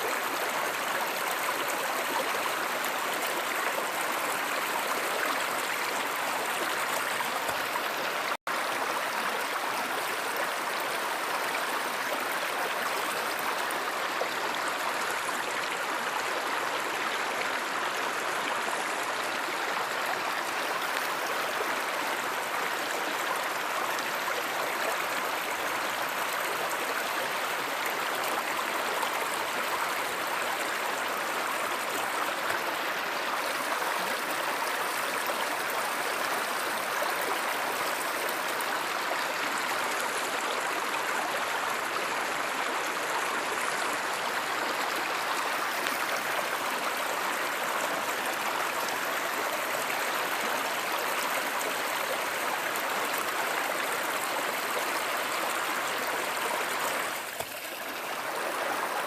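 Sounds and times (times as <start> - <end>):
stream rushing and gurgling: 0.0 - 59.0.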